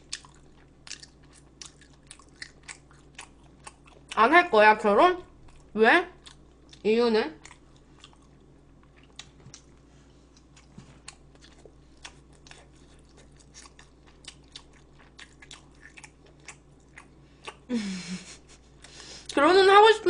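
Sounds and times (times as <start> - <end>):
person chewing food: 0.0 - 4.2, 5.4 - 6.8, 7.4 - 17.7, 18.3 - 19.4.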